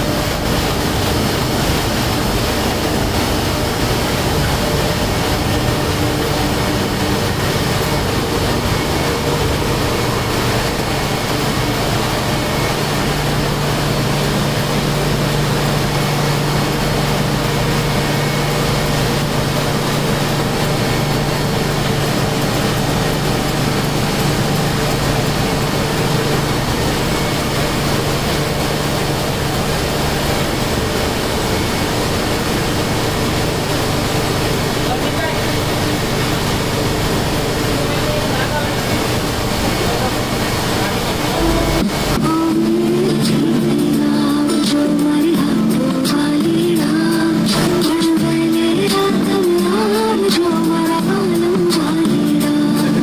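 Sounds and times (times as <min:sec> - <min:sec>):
low hum: 0:00.0 - 0:51.3
printing press mechanical drone: 0:00.0 - 0:53.0.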